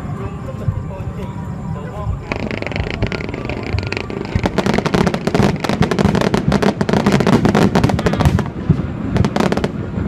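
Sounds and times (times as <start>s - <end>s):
fireworks crackling pops: 0.0s - 10.0s.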